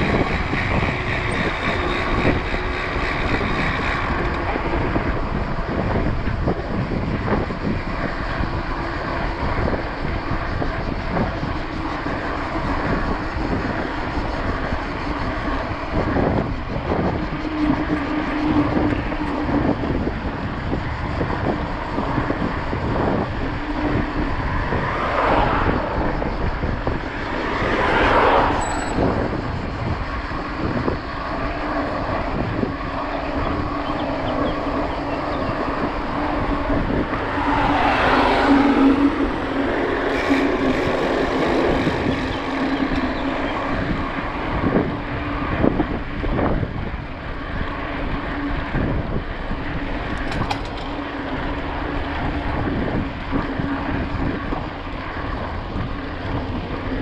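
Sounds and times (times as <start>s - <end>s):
bike tyres rolling on road: 0.0s - 57.0s
motor vehicles passing: 0.0s - 57.0s
wind: 0.0s - 57.0s.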